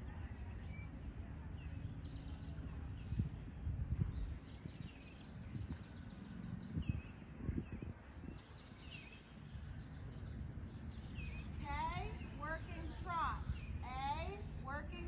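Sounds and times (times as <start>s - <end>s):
low rumbling background noise: 0.0s - 15.0s
small birds chirping: 0.2s - 15.0s.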